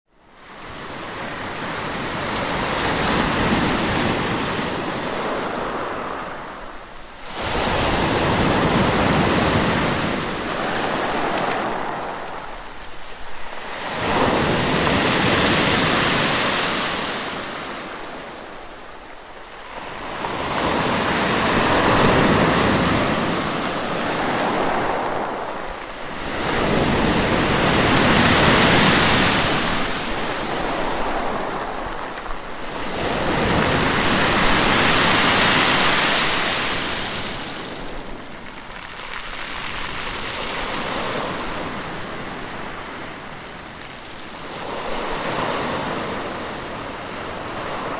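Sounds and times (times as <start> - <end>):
sea waves breaking on shore: 0.4 - 47.9.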